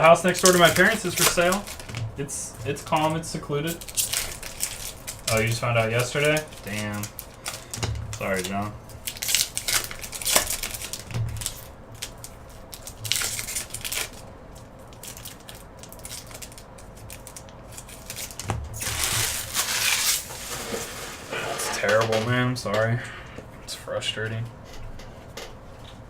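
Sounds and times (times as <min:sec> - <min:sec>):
foil wrappers crinkling and tearing: 0:00.0 - 0:22.1.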